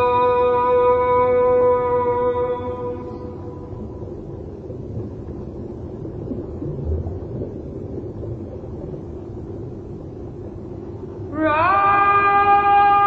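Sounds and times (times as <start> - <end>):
rumbling wind-like noise: 0.0 - 13.0.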